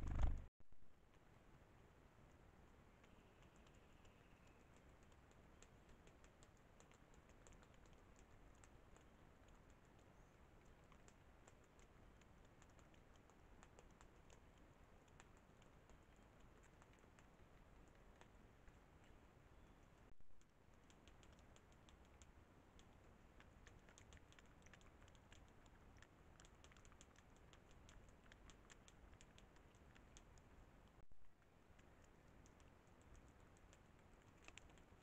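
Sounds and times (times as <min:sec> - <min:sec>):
faint steady hiss: 0:00.0 - 0:35.0
tiny irregular clicks: 0:03.0 - 0:35.0.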